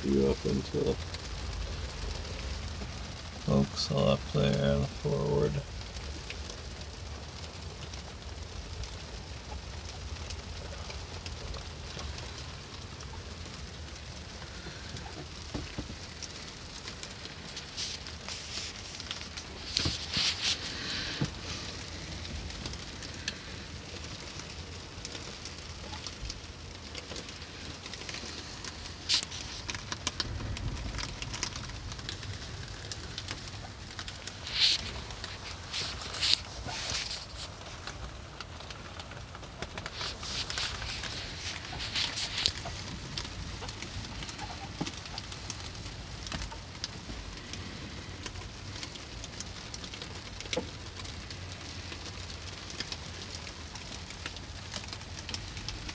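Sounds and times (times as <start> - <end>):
sleet and rain pattering on boat: 0.0 - 55.9.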